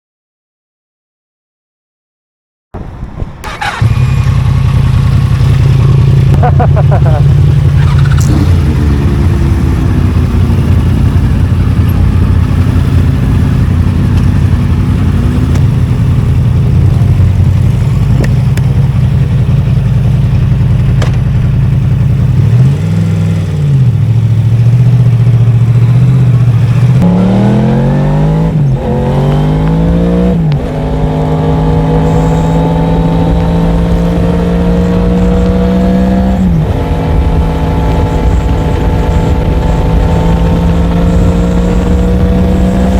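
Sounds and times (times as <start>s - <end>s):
motorcycle engine revving: 2.8s - 42.9s.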